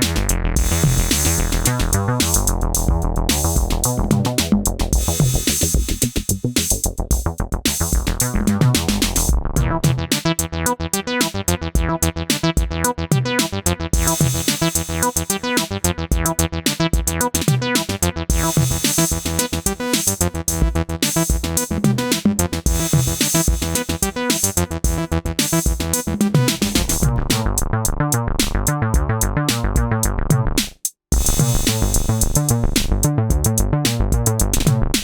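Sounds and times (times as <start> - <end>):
drum machine beat: 0.0 - 27.7, 28.4 - 35.0
synthesizer bass line: 0.0 - 30.6, 31.2 - 35.0.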